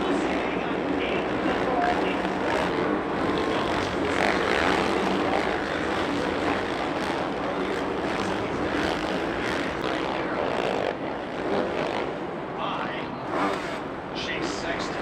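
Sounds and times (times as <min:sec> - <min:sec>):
dirt bike engines buzzing: 0:00.0 - 0:15.0.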